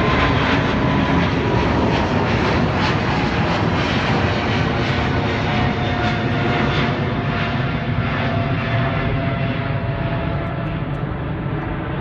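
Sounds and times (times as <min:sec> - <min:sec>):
jet engines rumbling overhead: 0:00.0 - 0:12.0.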